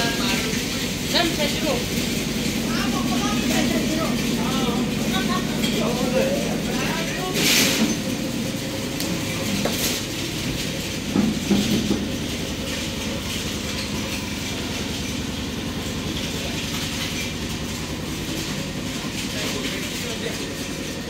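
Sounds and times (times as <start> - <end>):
machine engine running steadily: 0.0 - 21.0.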